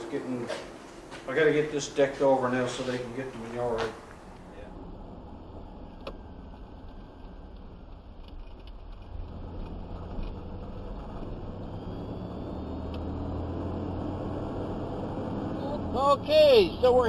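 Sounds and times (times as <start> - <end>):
vehicle engine droning: 1.1 - 17.0.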